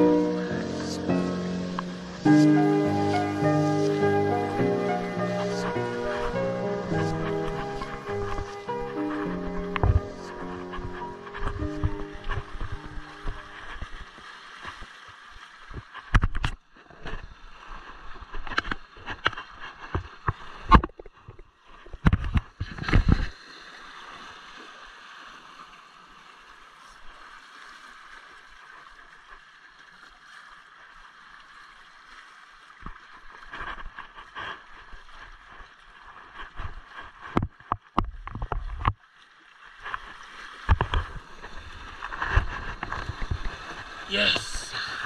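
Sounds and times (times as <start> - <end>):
water lapping against boat hull: 4.4 - 45.0.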